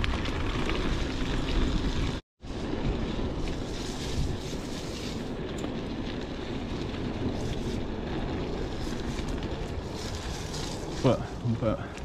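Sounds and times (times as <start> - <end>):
bicycle rattling on dirt trail: 0.0 - 12.0
wind buffeting microphone: 0.0 - 12.0.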